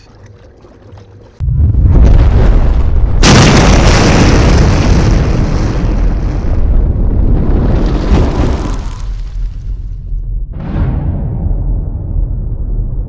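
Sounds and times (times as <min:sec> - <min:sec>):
loud explosion blast: 0:01.4 - 0:09.7, 0:10.3 - 0:13.0
deep rumble: 0:01.4 - 0:13.0.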